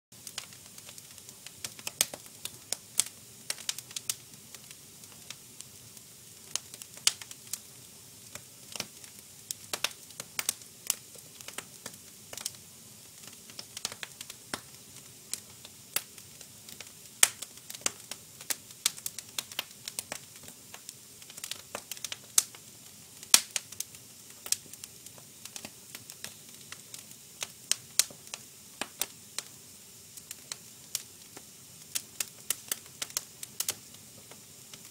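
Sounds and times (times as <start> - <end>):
faint steady hiss: 0.1 - 34.9
fire crackling: 0.2 - 34.9.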